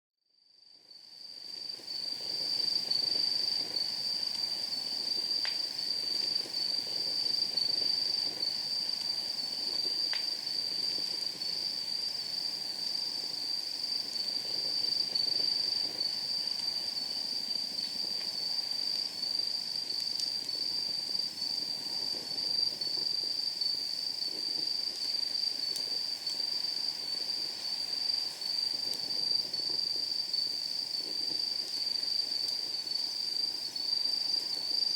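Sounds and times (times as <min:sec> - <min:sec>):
night insects trilling: 0:00.5 - 0:34.9
wood fire crackling: 0:01.8 - 0:34.8.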